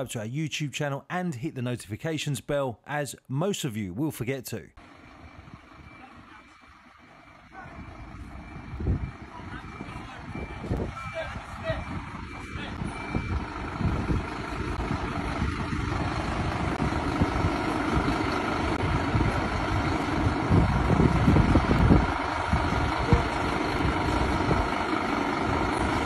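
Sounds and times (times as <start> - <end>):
diesel engine idling: 4.8 - 26.0.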